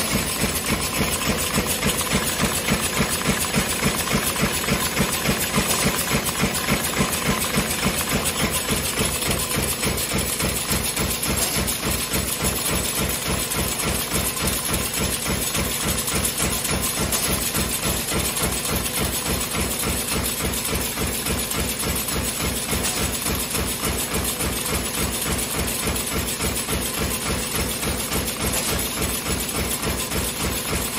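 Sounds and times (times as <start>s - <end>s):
power press stamping: 0.0s - 30.9s.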